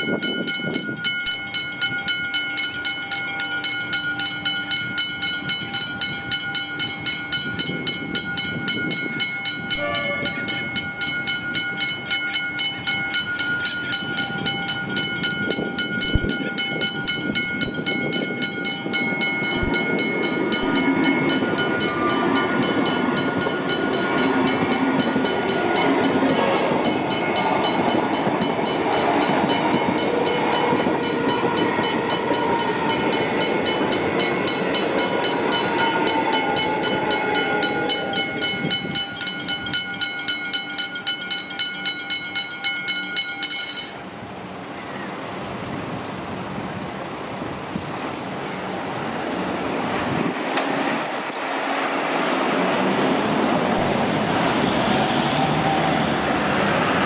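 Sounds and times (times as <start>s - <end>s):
crossing warning bells ringing: 0.0s - 44.3s, 50.9s - 57.0s
train wheels rushing on rail: 0.0s - 57.0s.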